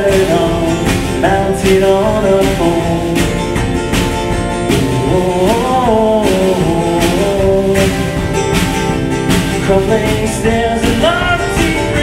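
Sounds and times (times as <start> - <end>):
person singing: 0.0 - 3.7, 4.7 - 12.0
drum kit: 0.0 - 12.0
strummed acoustic guitar: 0.0 - 12.0.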